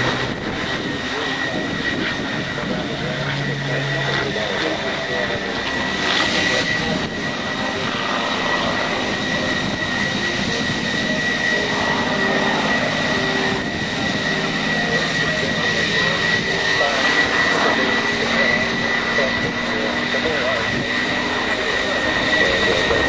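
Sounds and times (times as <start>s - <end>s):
aircraft piston engine running: 0.0s - 23.0s
high whine: 0.0s - 23.0s.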